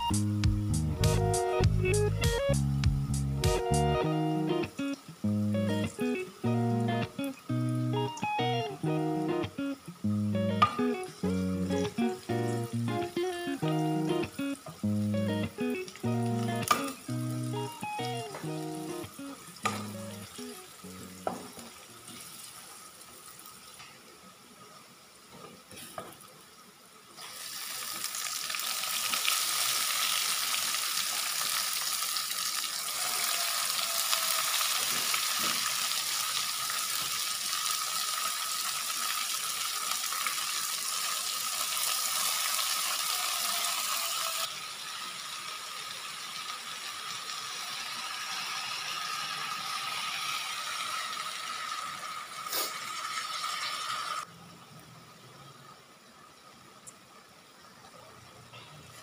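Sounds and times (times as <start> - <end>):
vegetables sizzling in a pan: 0.0 - 26.4, 27.1 - 54.3.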